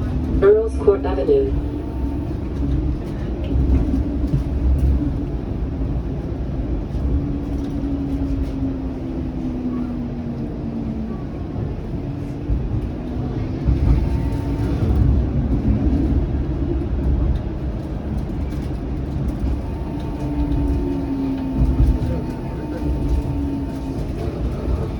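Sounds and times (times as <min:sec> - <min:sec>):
streetcar rumble: 0:00.0 - 0:24.9.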